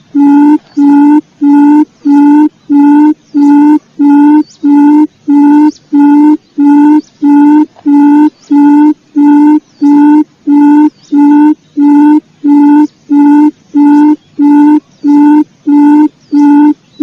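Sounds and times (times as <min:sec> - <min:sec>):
quail lure call hooting: 0:00.0 - 0:16.9.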